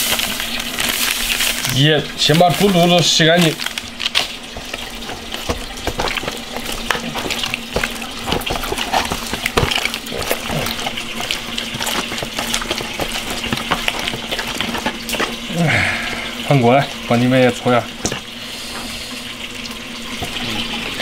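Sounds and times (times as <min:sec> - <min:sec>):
hands squelching and kneading: 0:00.0 - 0:18.3.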